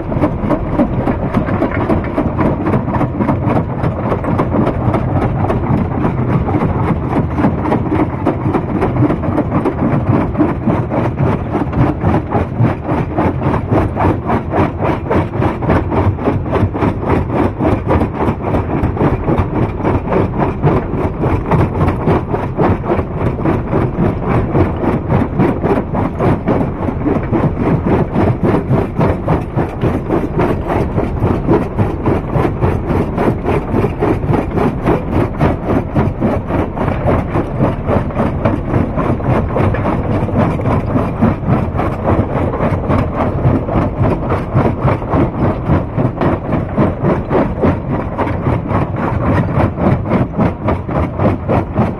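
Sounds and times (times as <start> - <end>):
rock-crushing machinery rumbling: 0.0 - 51.9.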